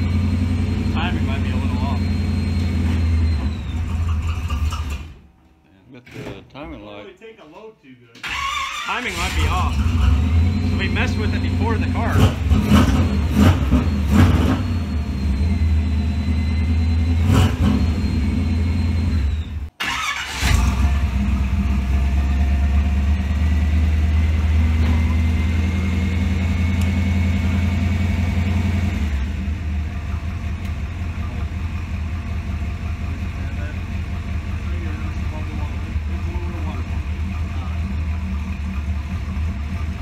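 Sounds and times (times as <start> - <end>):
car engine idling: 0.0 - 5.4, 9.0 - 40.0.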